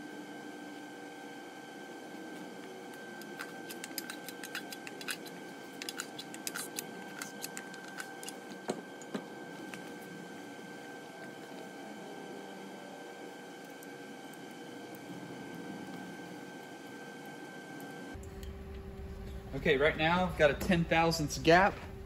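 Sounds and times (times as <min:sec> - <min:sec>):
background hum with high tone: 0:00.0 - 0:22.0.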